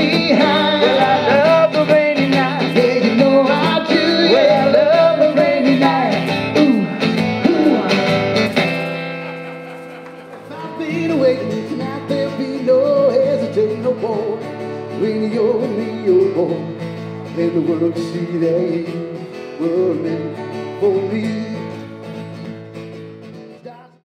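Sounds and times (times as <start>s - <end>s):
man singing country song: 0.0s - 8.5s, 10.4s - 22.5s, 23.4s - 24.0s
strummed acoustic guitar: 0.0s - 24.0s.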